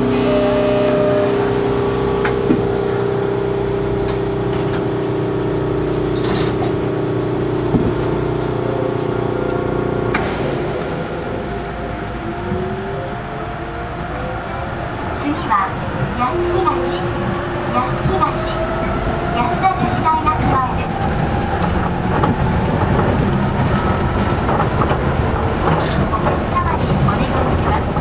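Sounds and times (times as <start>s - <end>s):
low tyre rumble: 0.0s - 28.0s
train whine: 0.0s - 28.0s.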